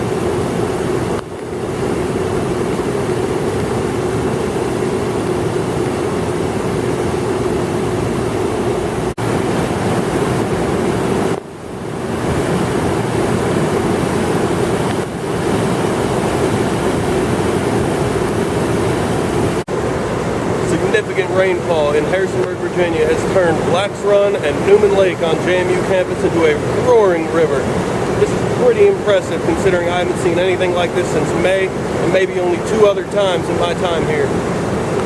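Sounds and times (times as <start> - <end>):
floodwater roaring in a creek: 0.0 - 35.0.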